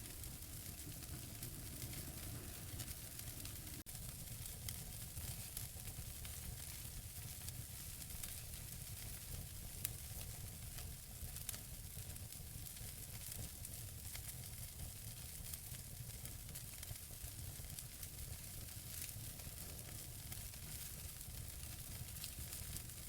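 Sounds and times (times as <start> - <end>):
wood fire crackling and hissing: 0.0 - 23.0.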